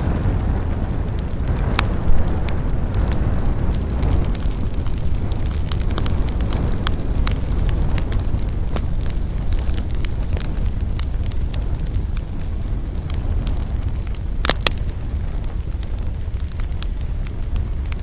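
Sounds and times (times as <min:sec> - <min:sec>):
burning wood crackling and popping: 0:00.0 - 0:18.0
campfire flames roaring: 0:00.0 - 0:18.0.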